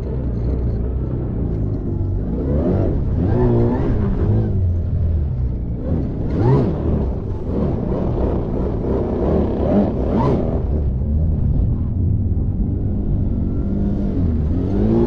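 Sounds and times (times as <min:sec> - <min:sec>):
low rumble of track on snow: 0:00.0 - 0:15.0.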